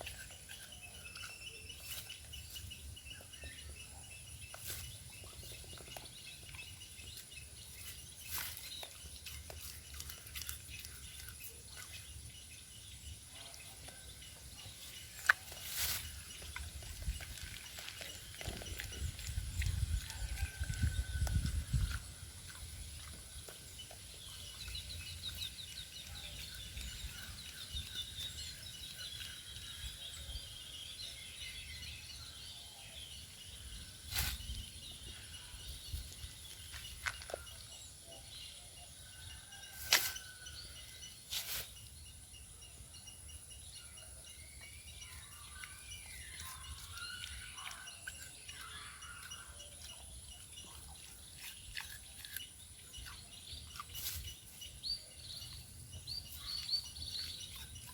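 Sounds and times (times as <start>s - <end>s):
birds chirping and calling: 0.0s - 57.9s.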